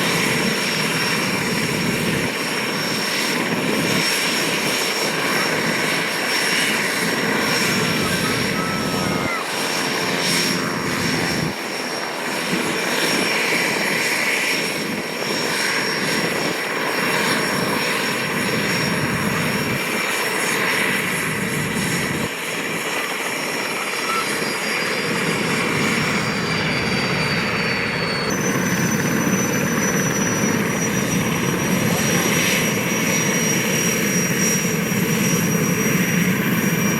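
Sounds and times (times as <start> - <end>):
helicopter rotor noise: 0.0 - 36.9
helicopter turbine whine: 0.0 - 36.9.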